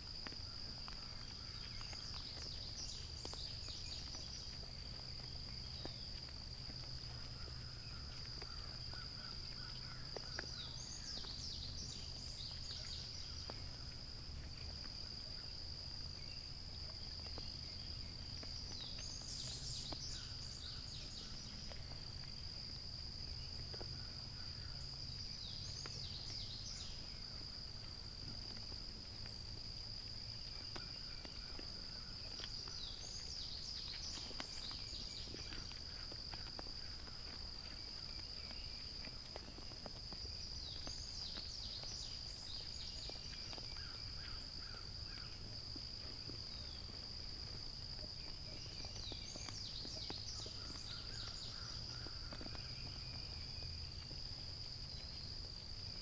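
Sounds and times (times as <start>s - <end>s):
insect chirping calls: 0.0s - 56.0s
insect trill: 0.0s - 56.0s.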